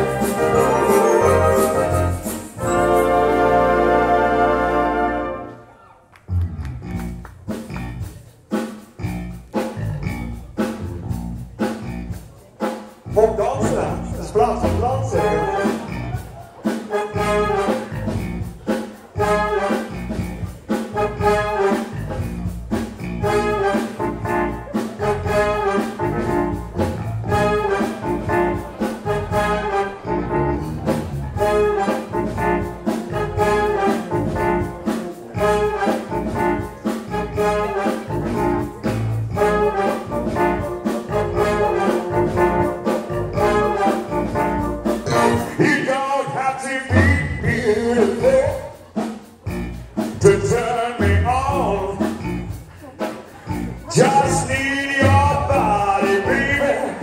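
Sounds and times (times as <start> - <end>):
steady drum beat: 0.0 - 3.0, 6.9 - 57.0
brass band playing: 0.0 - 5.7, 8.6 - 57.0.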